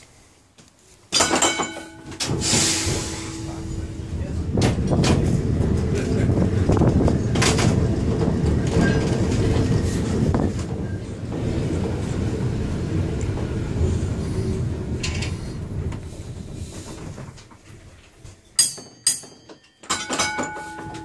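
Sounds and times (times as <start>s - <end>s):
wheels clacking over track: 1.2s - 18.3s
tram wheels rumbling: 1.2s - 21.0s.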